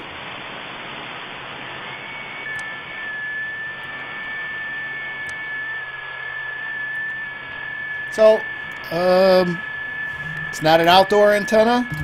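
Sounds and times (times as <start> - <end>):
radio band hiss: 0.0 - 12.0
thin steady digital tones: 2.2 - 12.0.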